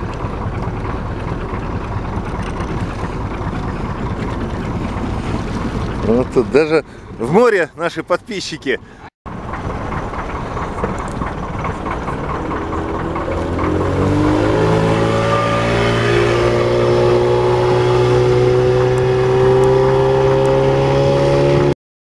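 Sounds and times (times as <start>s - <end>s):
motorboat engine speeding up: 0.0s - 7.9s, 8.9s - 21.8s
water rushing: 0.0s - 21.7s.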